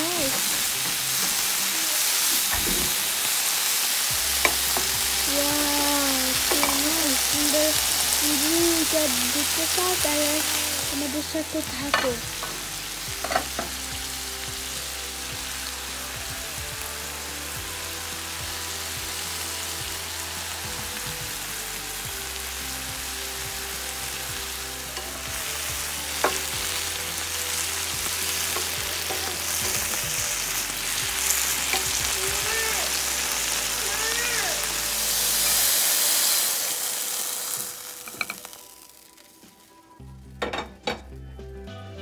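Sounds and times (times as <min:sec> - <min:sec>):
vegetables sizzling in a pan: 0:00.0 - 0:40.4.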